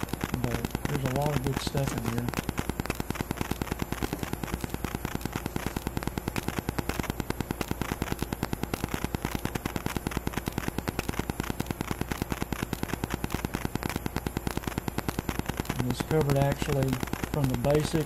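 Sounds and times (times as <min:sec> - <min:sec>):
electrical interference clicking buzz: 0:00.0 - 0:18.0.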